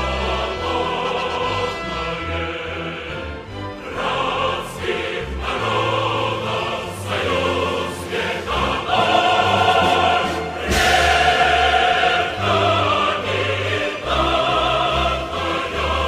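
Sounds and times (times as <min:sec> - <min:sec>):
choir singing held notes: 0:00.0 - 0:16.0.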